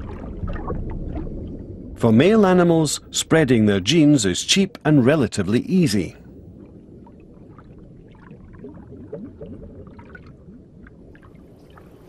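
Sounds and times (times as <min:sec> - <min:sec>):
faint gurgles: 0:00.0 - 0:12.0
muffled underwater rumble: 0:00.0 - 0:12.0.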